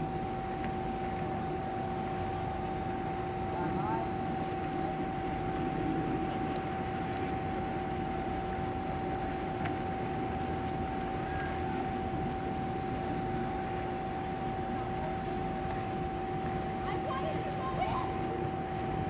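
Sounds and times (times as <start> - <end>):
engine drone with high whine: 0.0 - 19.0.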